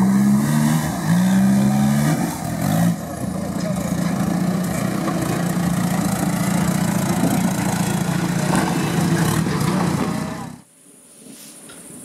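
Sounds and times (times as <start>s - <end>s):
off-road buggy engine low revs: 0.0s - 10.6s.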